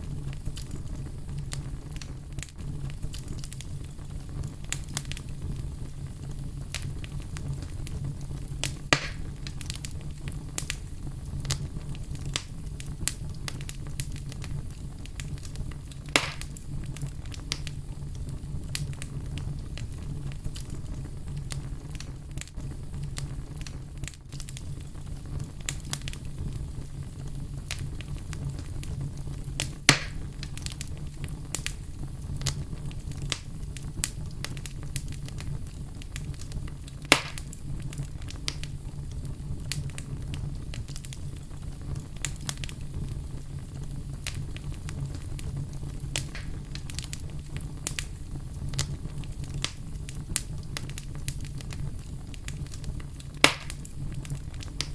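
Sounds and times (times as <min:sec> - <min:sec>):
fire crackling and popping: 0:00.0 - 0:54.9.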